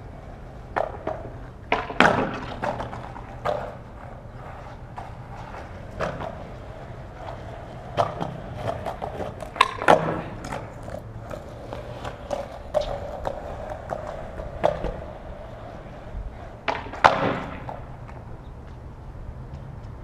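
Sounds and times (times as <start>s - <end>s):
skateboard clacks and knocks: 0.0s - 18.7s
skateboard wheels rolling on concrete: 0.0s - 20.0s.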